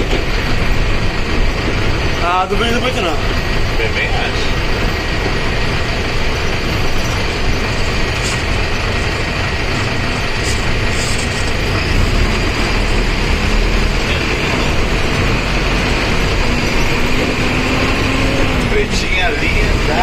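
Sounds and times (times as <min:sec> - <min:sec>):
bus diesel engine rumble: 0:00.0 - 0:20.0.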